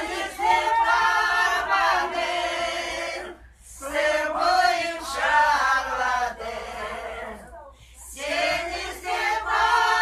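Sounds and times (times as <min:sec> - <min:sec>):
group of women singing: 0:00.0 - 0:10.0.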